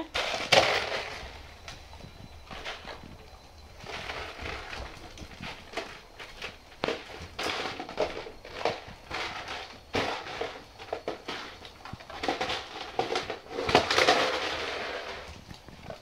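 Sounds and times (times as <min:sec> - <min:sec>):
dogs crunching kibble: 0:00.0 - 0:16.0.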